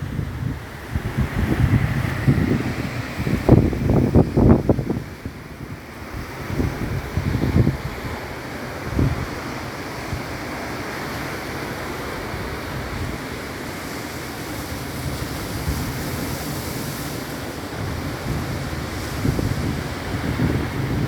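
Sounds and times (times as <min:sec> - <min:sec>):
wind buffeting microphone: 0:00.0 - 0:10.4, 0:12.0 - 0:21.0
ocean waves breaking: 0:00.0 - 0:21.0.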